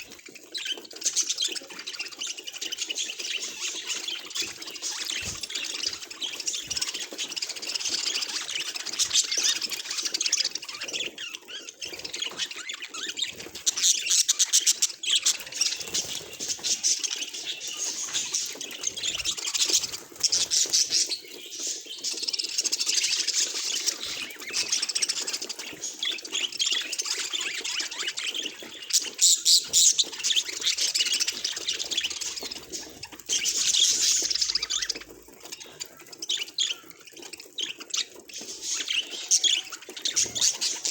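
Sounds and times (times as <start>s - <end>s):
budgerigar chattering and warbling: 0.0s - 40.9s.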